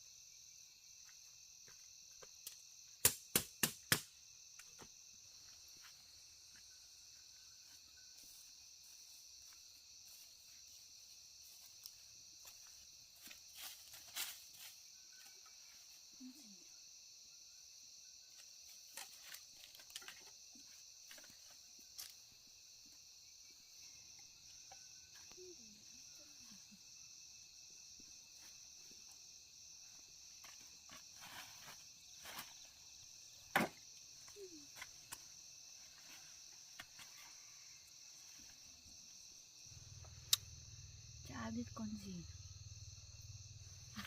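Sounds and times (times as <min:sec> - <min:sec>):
insects chorus: 0:00.0 - 0:44.0.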